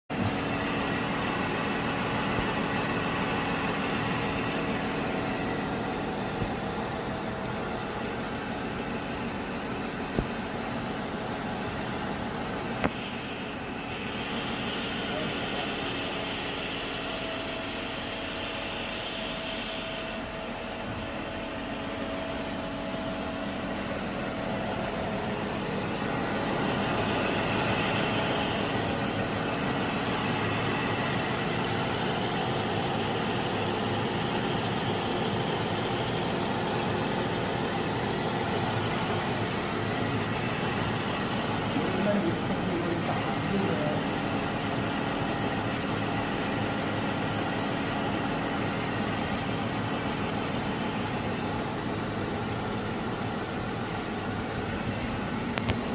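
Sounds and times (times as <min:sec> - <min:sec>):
car engine running: 0:00.1 - 0:55.9.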